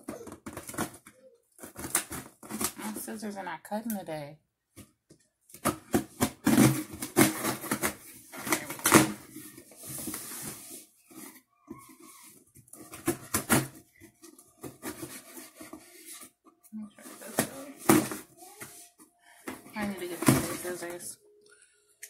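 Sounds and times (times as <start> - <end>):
cardboard and tape rustling: 0.0 - 3.2, 4.8 - 21.1.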